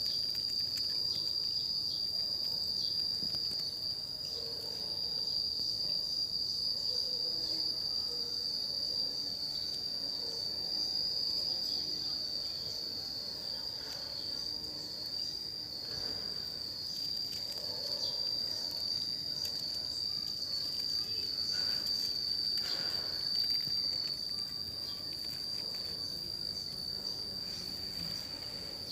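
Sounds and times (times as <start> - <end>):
cicadas singing: 0.0 - 28.9.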